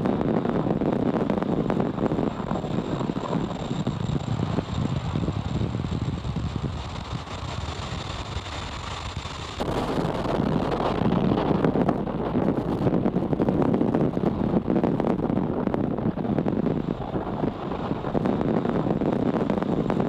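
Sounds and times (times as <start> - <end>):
rocket engine roaring: 0.0 - 20.0.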